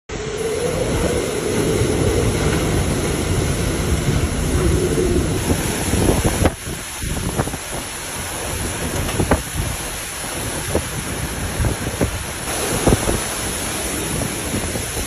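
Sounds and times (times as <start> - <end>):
hurricane wind roaring: 0.1 - 15.0.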